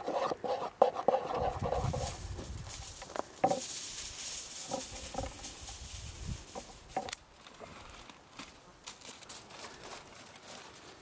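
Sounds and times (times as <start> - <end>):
aluminium foil crinkling: 1.9 - 11.0.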